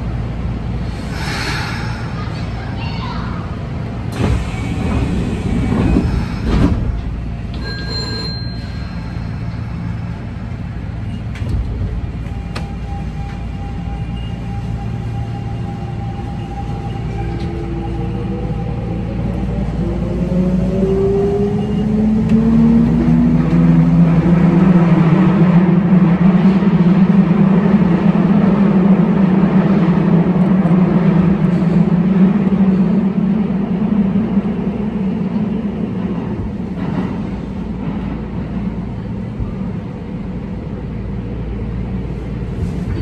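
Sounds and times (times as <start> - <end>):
electric train rumbling: 0.0 - 43.0.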